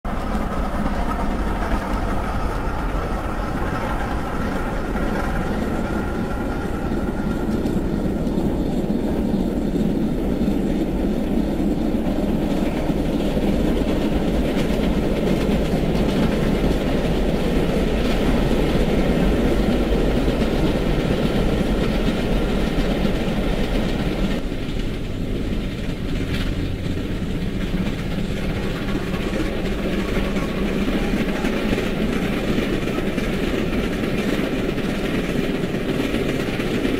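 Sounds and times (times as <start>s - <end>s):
steam train rumbling on rails: 0.0s - 36.9s.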